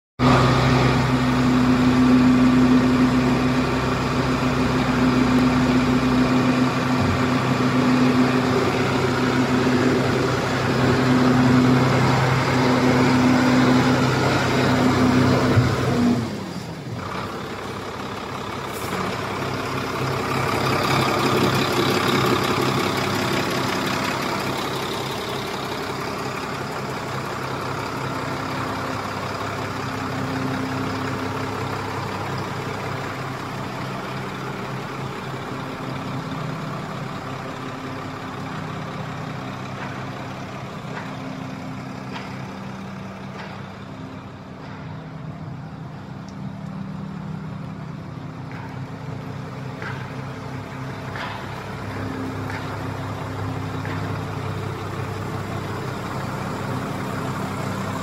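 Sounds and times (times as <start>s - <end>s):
diesel truck engine running: 0.2s - 58.0s.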